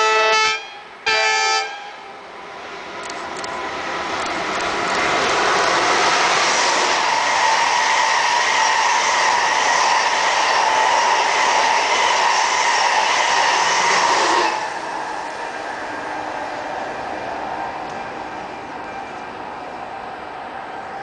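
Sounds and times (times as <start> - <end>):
faint train rumble: 0.0 - 21.0
high-speed train passing: 0.0 - 21.0.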